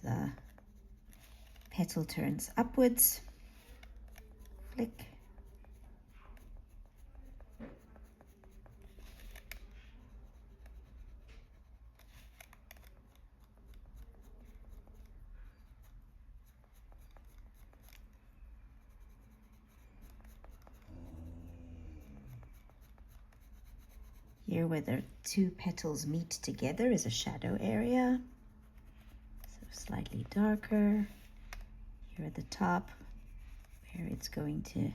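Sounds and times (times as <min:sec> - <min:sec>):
pencil scratching on paper: 0:00.0 - 0:34.9.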